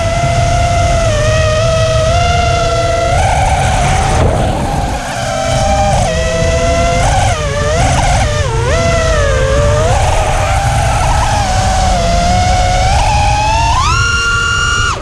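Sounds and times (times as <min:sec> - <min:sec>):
drone motors whining: 0:00.0 - 0:15.0
rough low rumble: 0:00.0 - 0:15.0.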